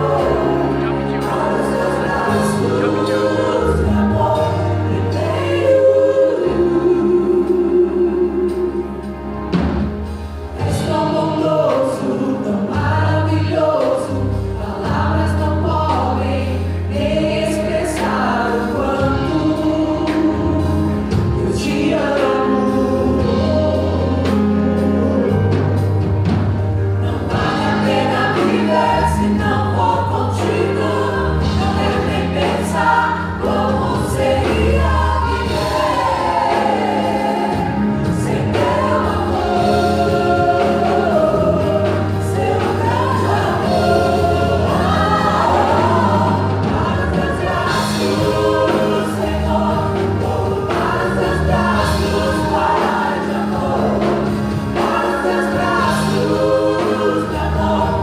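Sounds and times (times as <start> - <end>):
choir singing: 0.0 - 58.0
drum kit: 0.0 - 58.0
keyboard: 0.0 - 58.0.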